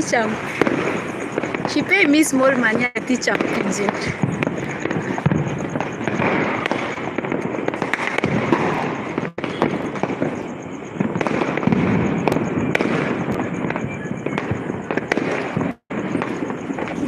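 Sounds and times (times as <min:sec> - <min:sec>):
firecrackers and fireworks crackling: 0:00.0 - 0:17.0.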